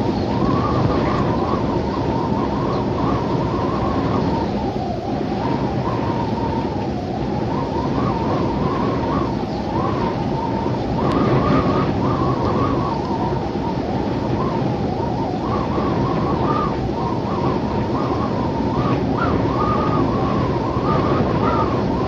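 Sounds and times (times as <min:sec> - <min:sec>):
howling wind: 0:00.0 - 0:22.0.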